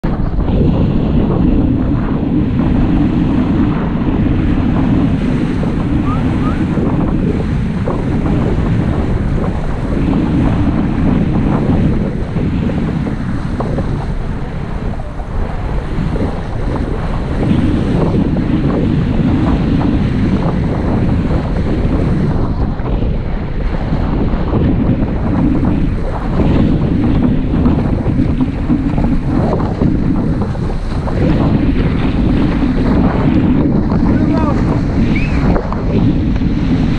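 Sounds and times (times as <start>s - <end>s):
water rushing and splashing: 0.0s - 36.9s
wind buffeting microphone: 0.0s - 36.9s.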